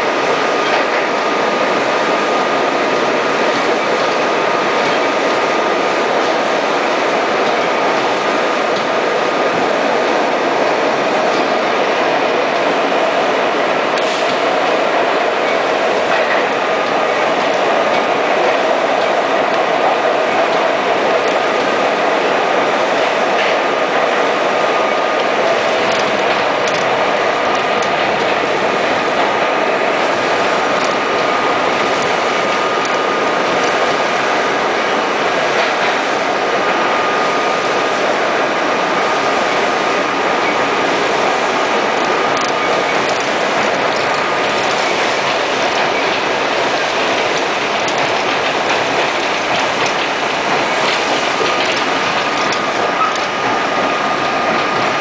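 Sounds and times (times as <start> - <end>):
subway train wheels rumbling: 0.0 - 55.0.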